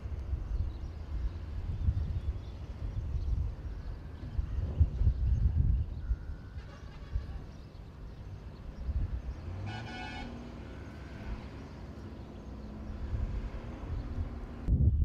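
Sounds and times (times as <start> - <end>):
steady low rumble: 0.0 - 9.4, 12.3 - 15.0.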